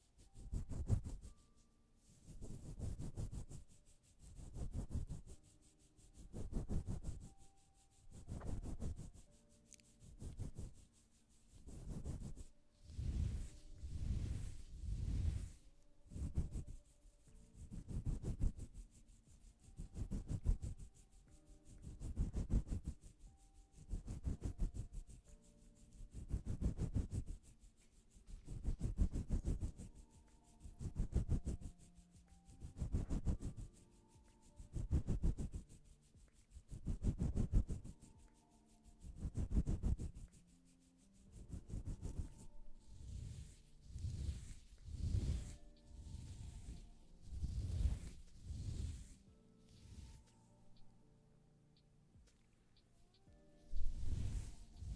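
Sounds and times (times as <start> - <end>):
rhythmic rubbing strokes: 0.0 - 51.0, 51.8 - 54.9.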